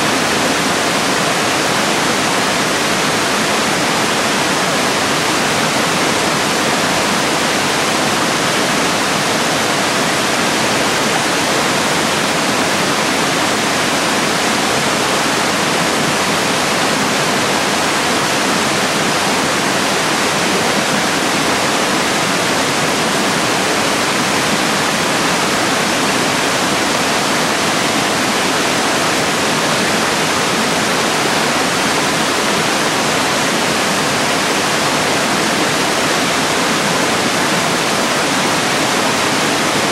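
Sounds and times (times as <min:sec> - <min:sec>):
stream pouring over rocks: 0:00.0 - 0:39.9.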